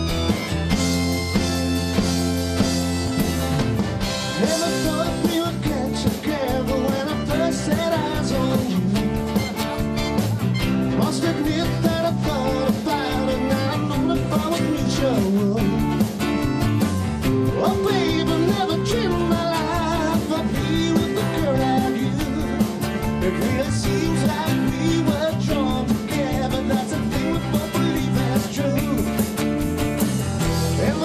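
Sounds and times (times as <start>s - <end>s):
amplified acoustic guitar: 0.0s - 31.0s.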